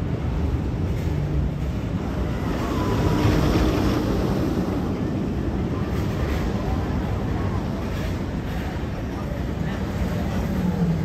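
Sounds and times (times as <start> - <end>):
low outdoor rumbling: 0.0 - 11.0.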